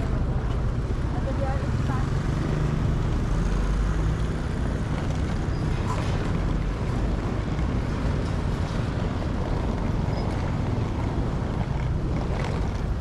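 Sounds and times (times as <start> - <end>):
ferry engine rumble: 0.0 - 13.0
rushing wind-like noise: 0.0 - 13.0.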